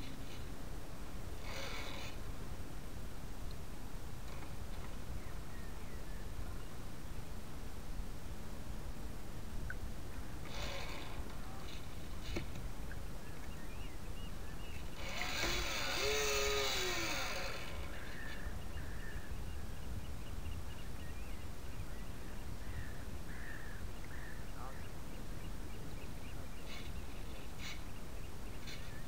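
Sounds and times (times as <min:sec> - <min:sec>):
wind and water rumble: 0:00.0 - 0:29.0.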